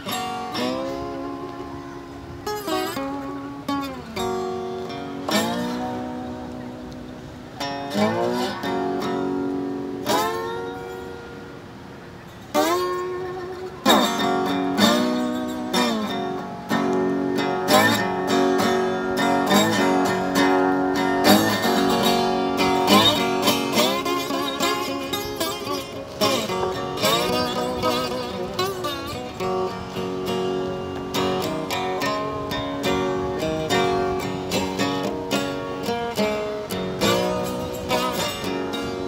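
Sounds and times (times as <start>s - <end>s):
acoustic guitar playing chords: 0.0s - 39.0s.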